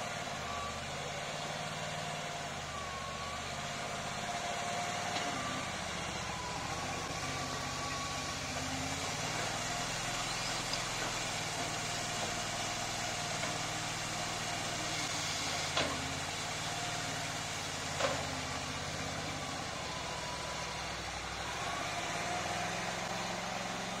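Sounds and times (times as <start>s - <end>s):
small engine running under load: 0.0s - 24.0s.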